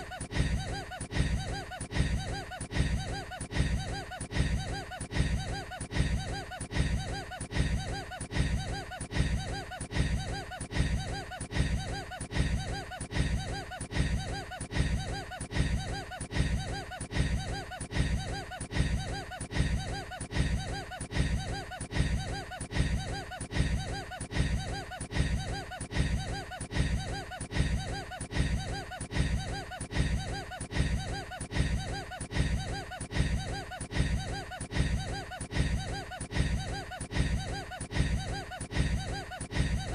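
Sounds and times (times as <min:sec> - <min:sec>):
man laughing: 0:00.0 - 0:39.9.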